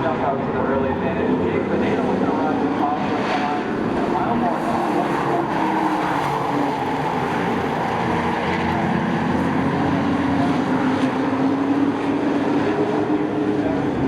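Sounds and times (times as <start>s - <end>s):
race truck engines droning: 0.0s - 14.0s.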